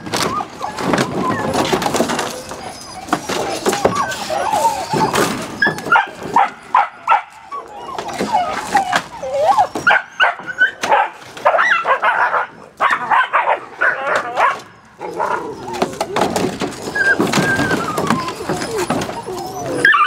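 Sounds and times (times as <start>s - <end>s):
puppy yipping and whining: 0.0s - 20.0s.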